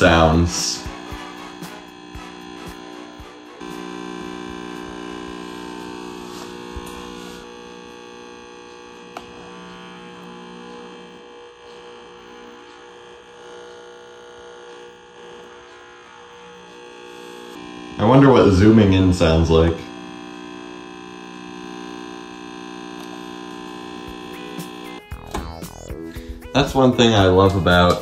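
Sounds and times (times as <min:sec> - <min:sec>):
buzzing hum of stacked tones: 0:00.0 - 0:28.0.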